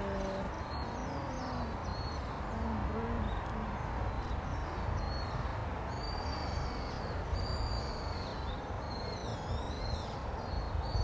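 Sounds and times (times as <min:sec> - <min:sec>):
birds calling in whistled notes: 0:00.0 - 0:11.0.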